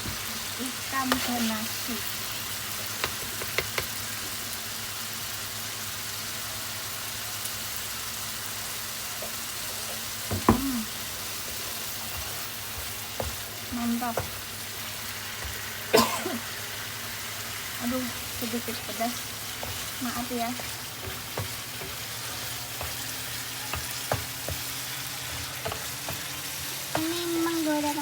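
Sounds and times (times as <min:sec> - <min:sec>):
paste sizzling in a frying pan: 0:00.0 - 0:28.0.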